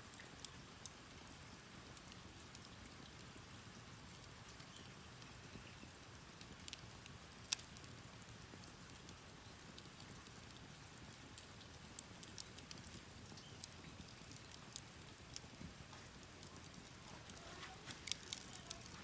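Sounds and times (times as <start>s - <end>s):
campfire crackling and popping: 0.0s - 19.0s
soft hiss: 0.0s - 19.0s.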